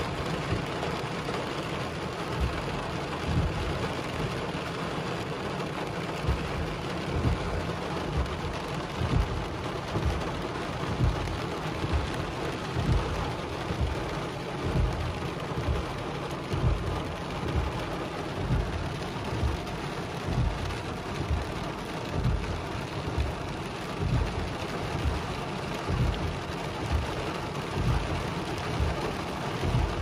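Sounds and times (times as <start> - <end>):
dull low thumps: 0.0 - 30.0
heavy rain on a car roof: 0.0 - 30.0.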